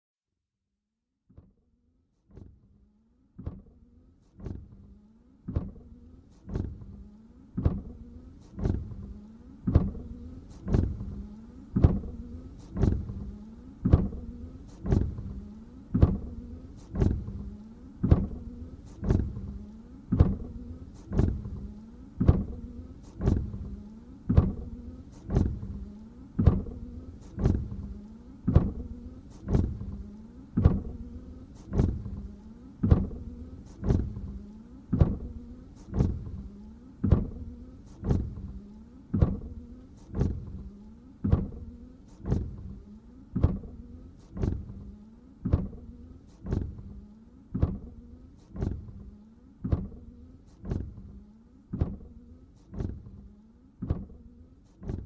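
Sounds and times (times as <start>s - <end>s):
wiper motor hum: 2.2s - 55.0s
windshield wipers knocking: 2.3s - 2.7s, 3.4s - 55.0s.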